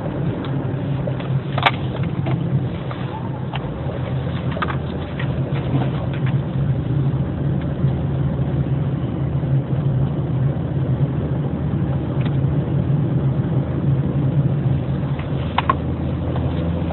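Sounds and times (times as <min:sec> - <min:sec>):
car engine running: 0:00.0 - 0:16.9.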